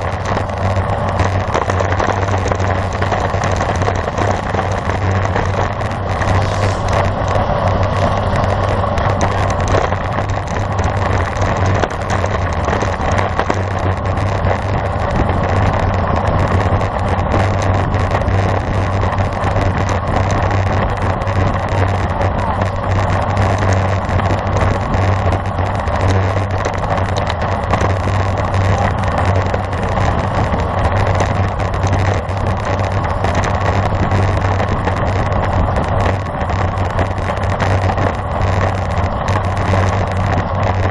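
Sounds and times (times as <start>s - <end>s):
wind and road noise while cycling: 0.0s - 40.9s.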